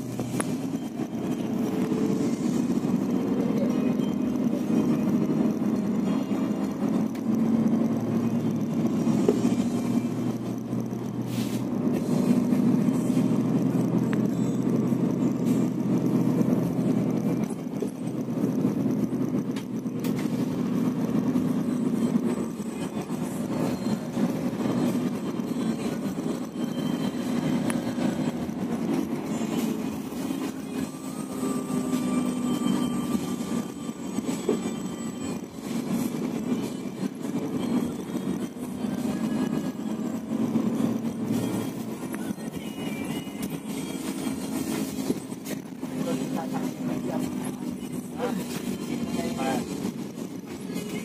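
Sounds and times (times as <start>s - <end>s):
bus engine drone: 0.0s - 51.0s
road and tyre noise: 0.0s - 51.0s.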